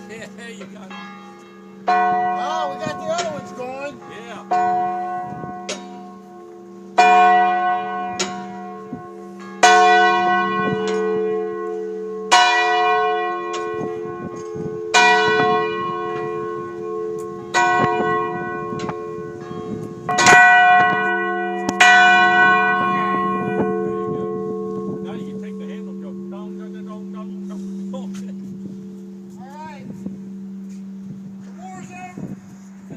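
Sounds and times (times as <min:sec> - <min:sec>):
large bell tolling: 0:00.0 - 0:32.3.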